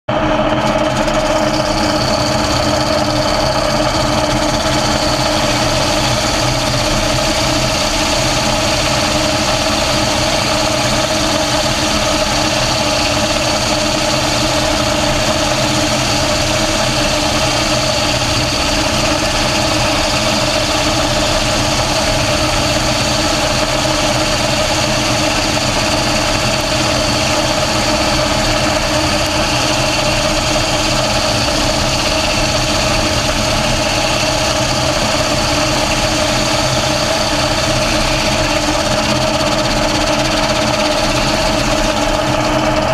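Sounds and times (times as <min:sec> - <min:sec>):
circular saw whine: 0:00.1 - 0:42.9
sawmill engine drone: 0:00.1 - 0:42.9.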